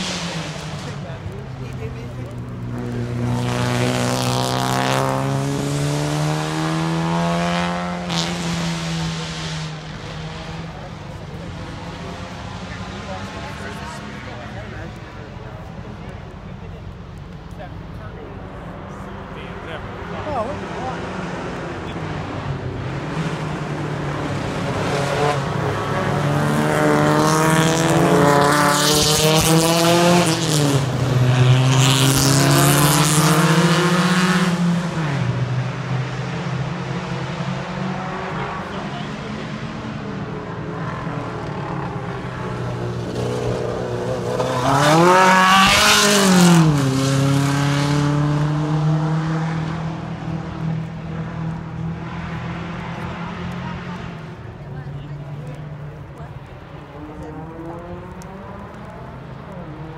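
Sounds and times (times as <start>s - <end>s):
race cars passing: 0.0s - 59.9s.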